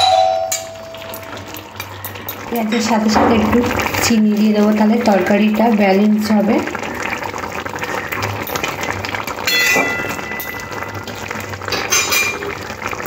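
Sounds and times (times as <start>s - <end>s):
curry bubbling and sizzling: 0.6s - 13.0s.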